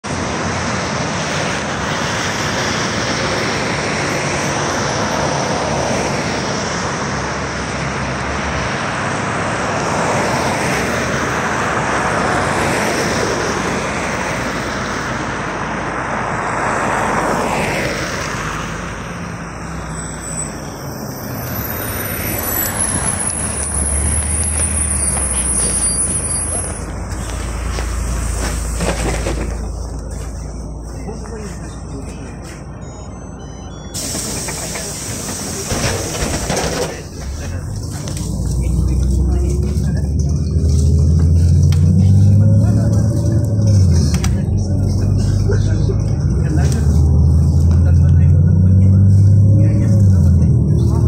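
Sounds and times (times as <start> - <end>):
bus pulling in: 0.0 - 51.0
road traffic on slushy road: 0.0 - 51.0
vehicles passing close: 0.0 - 51.0.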